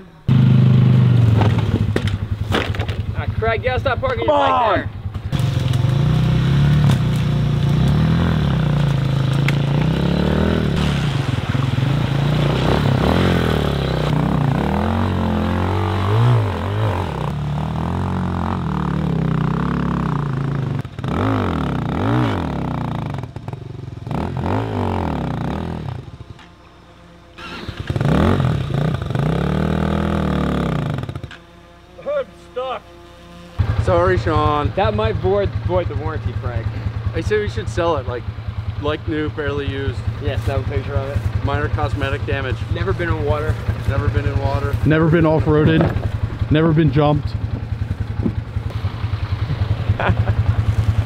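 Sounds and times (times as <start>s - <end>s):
motorcycle engine revving: 0.2s - 51.0s.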